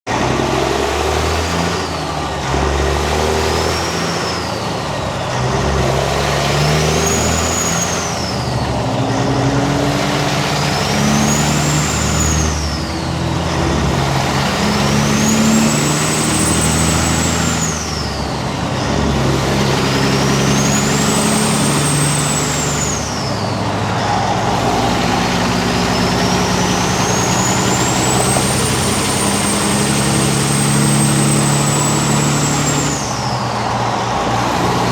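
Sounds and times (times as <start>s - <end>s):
diesel truck engine accelerating: 0.1s - 34.9s
turbocharger whistling: 0.3s - 34.9s.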